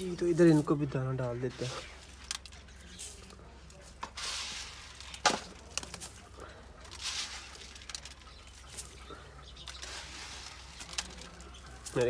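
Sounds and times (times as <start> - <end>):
wings rustling: 1.4 - 12.0
pigeons pecking: 1.5 - 12.0.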